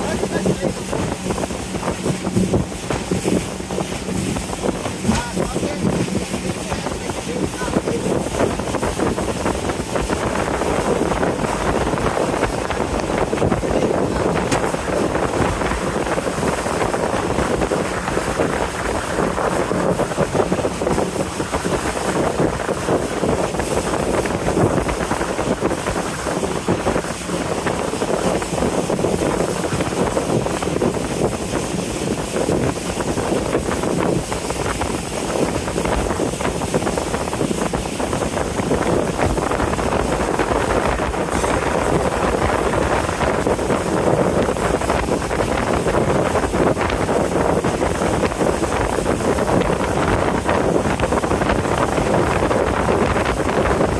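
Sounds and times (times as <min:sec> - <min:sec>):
boat engine drone: 0:00.0 - 0:53.9
water along hull: 0:00.0 - 0:53.9
wind across microphone: 0:00.0 - 0:53.9.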